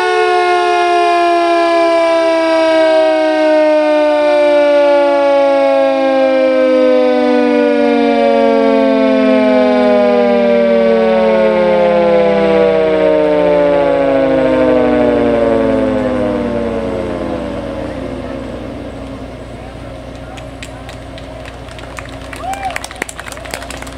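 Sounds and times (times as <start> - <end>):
mechanical siren winding down: 0.0 - 19.8.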